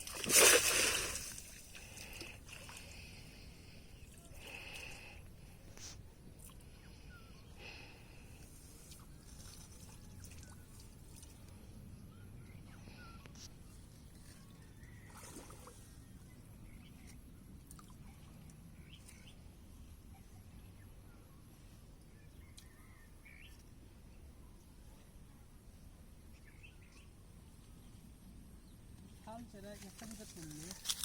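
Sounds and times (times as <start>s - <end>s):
faint outdoor hum: 0.0s - 31.0s.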